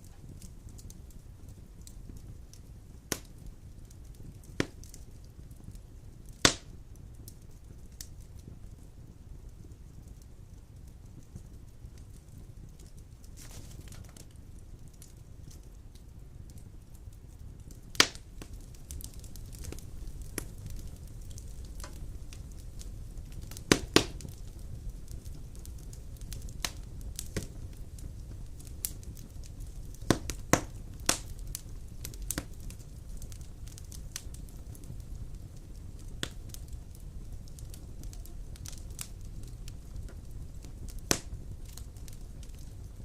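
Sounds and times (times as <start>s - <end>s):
fire rumbling: 0.0s - 43.0s
wood fire crackles and pops: 0.0s - 43.0s.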